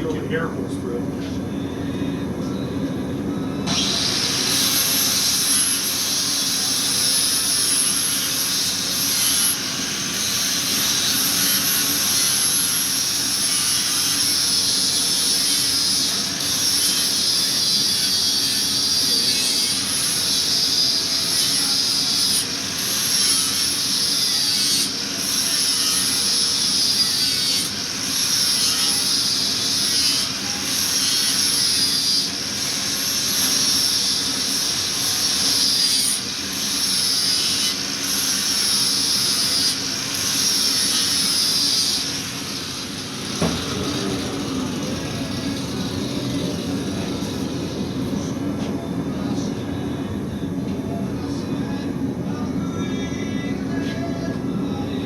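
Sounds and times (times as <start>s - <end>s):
grinder grinding steel: 3.7s - 48.3s.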